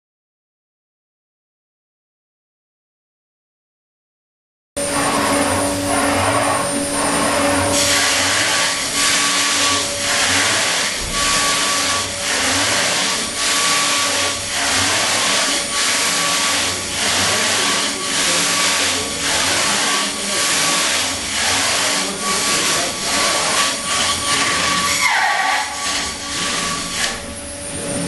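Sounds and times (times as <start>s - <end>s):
milling machine spindle whine: 4.8s - 28.0s
rushing cutting noise: 4.8s - 28.0s.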